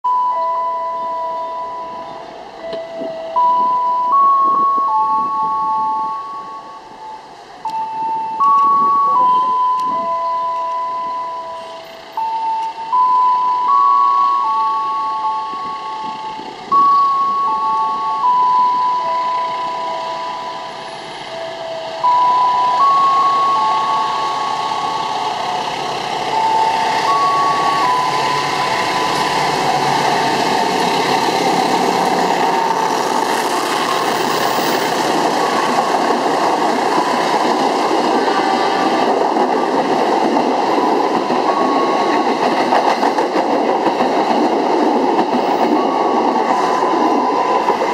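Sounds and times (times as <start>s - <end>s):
chime melody: 0.1s - 35.8s, 40.7s - 42.7s, 45.6s - 47.7s
train rumbling and rattling on rails: 0.1s - 47.9s.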